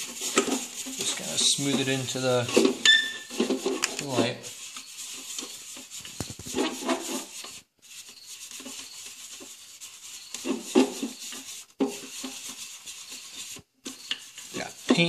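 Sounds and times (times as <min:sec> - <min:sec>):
scratchy swishing of polishing: 0:00.0 - 0:15.0.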